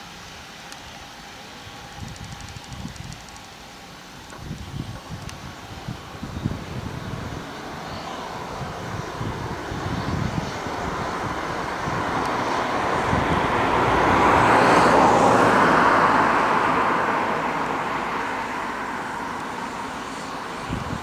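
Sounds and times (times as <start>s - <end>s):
jet engines taxiing: 0.0s - 21.0s.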